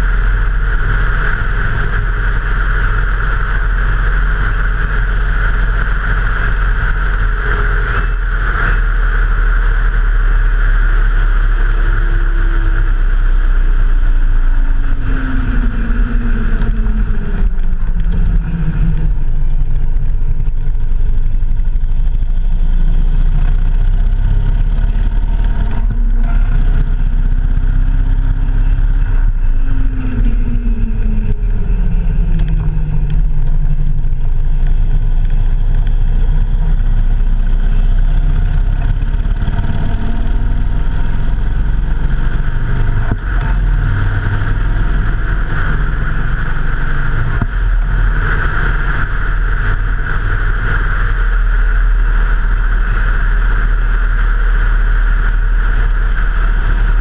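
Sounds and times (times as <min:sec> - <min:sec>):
vehicle engine running: 0:00.0 - 0:57.0
wind rumble on microphone: 0:00.0 - 0:57.0.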